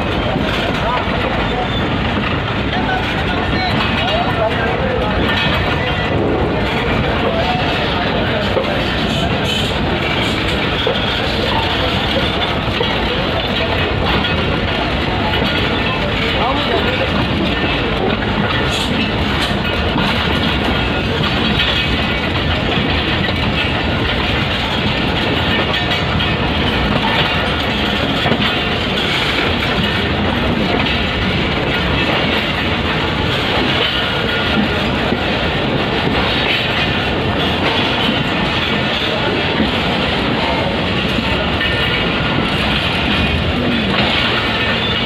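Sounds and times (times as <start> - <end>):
train wheels running on rails: 0.0 - 45.0.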